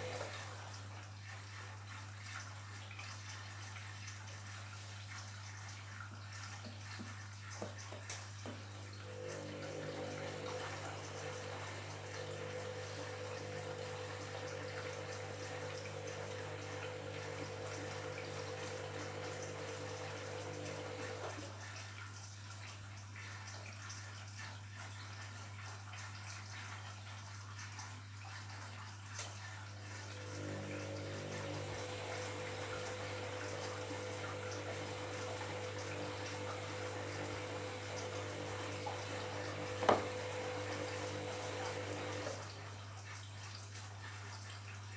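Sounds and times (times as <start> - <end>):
washing machine water inflow: 0.0 - 44.9.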